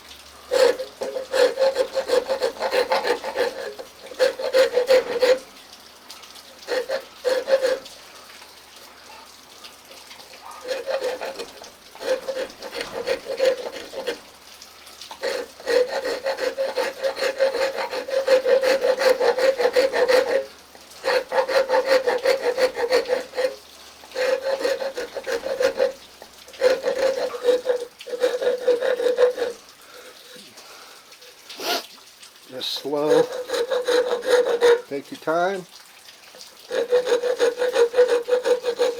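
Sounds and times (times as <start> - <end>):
wood file rasping: 0.5 - 5.5, 6.6 - 8.0, 10.3 - 14.3, 15.1 - 30.5, 31.2 - 31.9, 32.5 - 35.6, 36.6 - 38.9.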